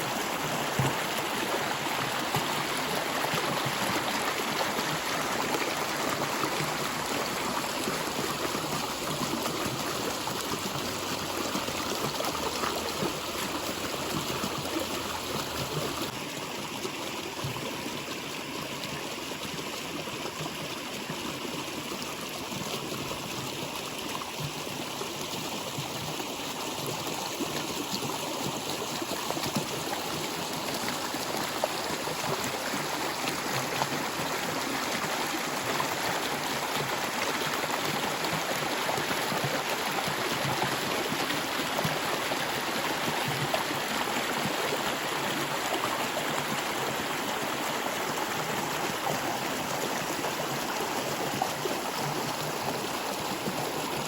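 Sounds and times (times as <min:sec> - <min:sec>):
stream water trickling: 0:00.0 - 0:54.0.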